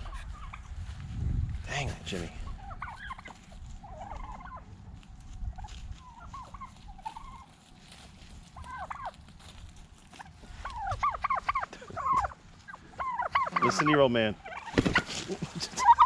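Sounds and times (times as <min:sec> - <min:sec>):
turkeys gobbling: 0:00.0 - 0:00.8, 0:02.4 - 0:16.0.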